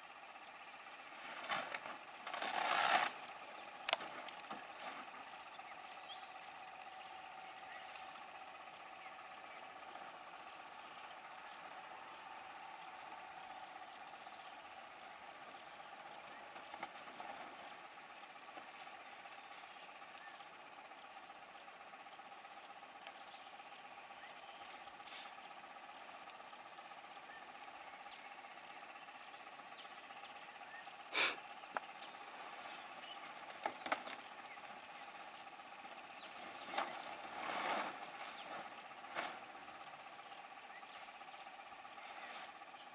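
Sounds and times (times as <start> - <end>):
crickets chirping: 0.0 - 42.9
low steady hum: 0.0 - 42.9.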